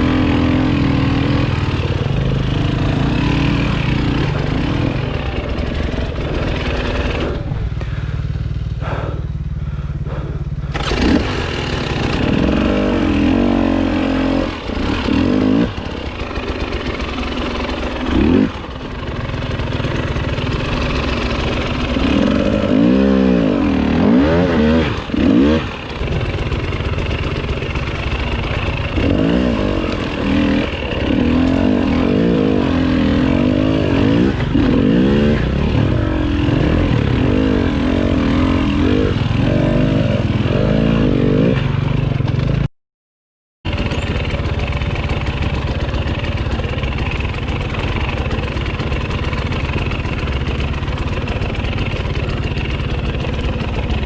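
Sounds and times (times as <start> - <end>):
dirt bike engine revving: 0.0 - 42.7, 43.7 - 54.0.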